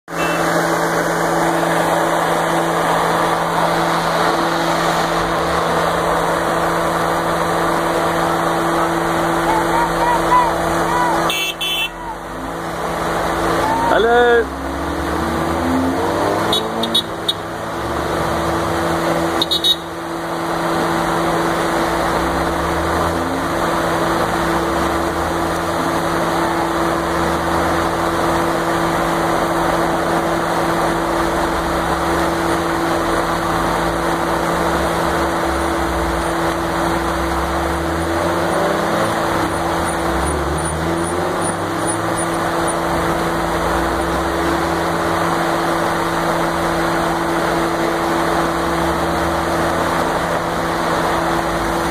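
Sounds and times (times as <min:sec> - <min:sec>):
cars driving past: 0:00.1 - 0:51.9.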